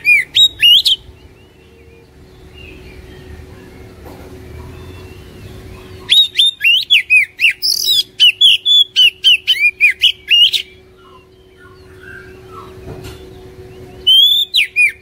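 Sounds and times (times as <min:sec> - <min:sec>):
bird singing whistled notes: 0:00.0 - 0:04.0, 0:04.6 - 0:15.0.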